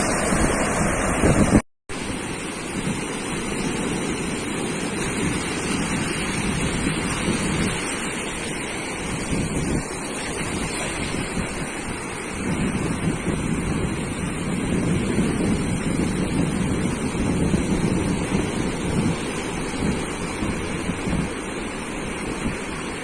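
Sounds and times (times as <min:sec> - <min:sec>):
sea surf washing onto beach: 0:00.0 - 0:23.0
wind rumbling on microphone: 0:00.0 - 0:23.0.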